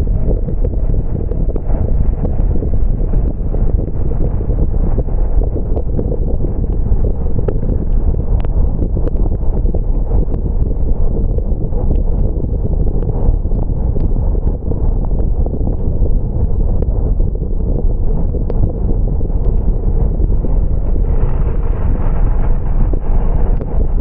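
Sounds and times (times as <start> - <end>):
small irregular ticks: 0.0 - 21.5.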